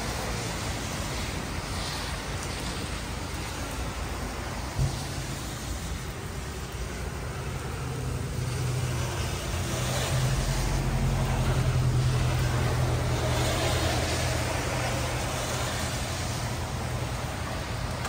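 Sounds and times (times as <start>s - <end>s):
steady rain: 0.0s - 18.0s
tyres hissing on wet road: 0.0s - 18.0s.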